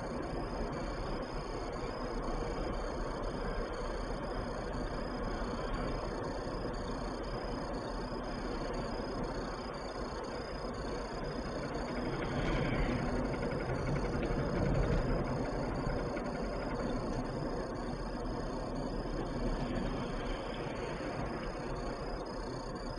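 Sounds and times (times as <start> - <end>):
car engine under steady load: 0.0 - 22.9.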